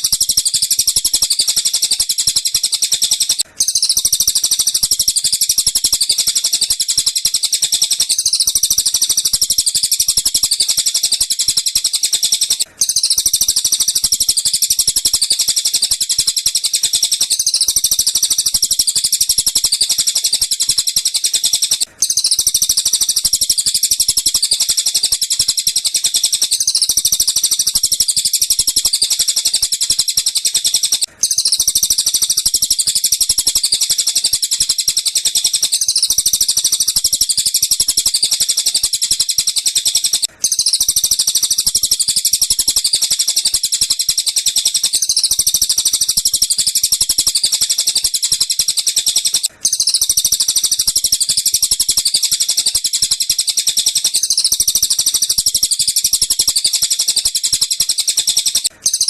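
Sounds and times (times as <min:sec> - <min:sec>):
recorded bird calls chirping: 0:00.0 - 0:59.0.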